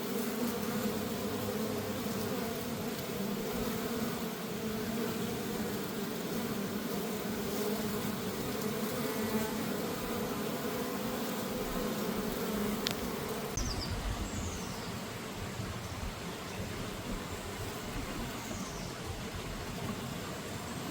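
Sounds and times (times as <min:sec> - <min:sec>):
honeybees buzzing: 0:00.0 - 0:20.9.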